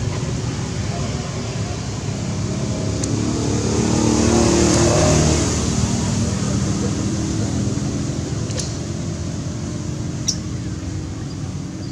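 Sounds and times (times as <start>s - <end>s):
vehicle engine passing: 0.0s - 11.7s.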